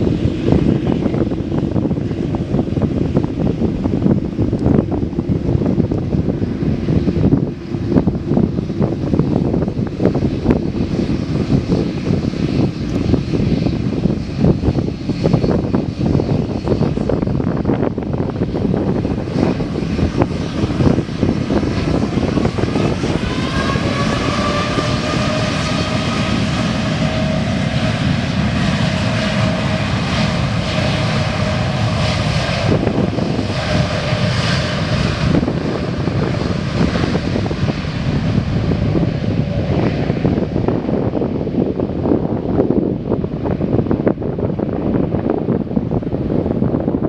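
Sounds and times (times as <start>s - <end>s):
airliner engines rumbling: 0.0s - 47.0s
engine whine: 0.0s - 47.0s.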